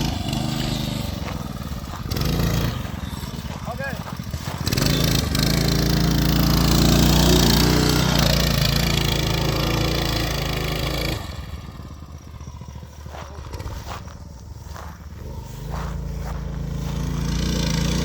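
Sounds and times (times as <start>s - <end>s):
small engine running hard: 0.0s - 18.0s.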